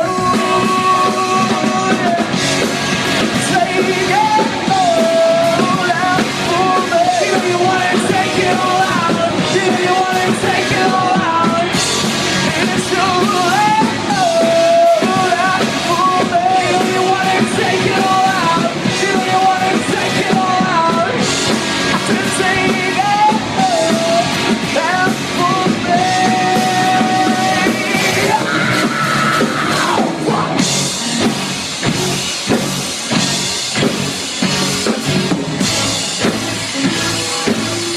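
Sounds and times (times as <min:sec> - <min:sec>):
person singing lead vocal: 0:00.0 - 0:34.0, 0:36.2 - 0:37.9
live rock band playing: 0:00.0 - 0:37.9.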